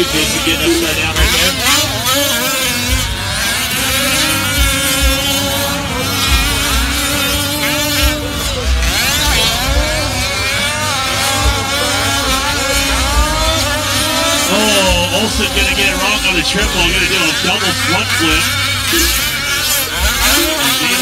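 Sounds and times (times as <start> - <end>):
rc truck engines revving: 0.0 - 21.0.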